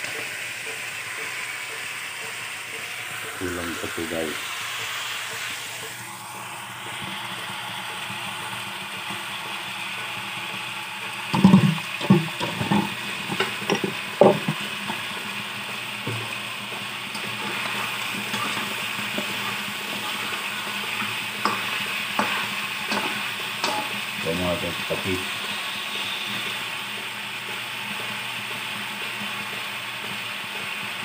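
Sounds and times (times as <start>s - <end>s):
chicken sizzling in a frying pan: 0.0s - 31.0s.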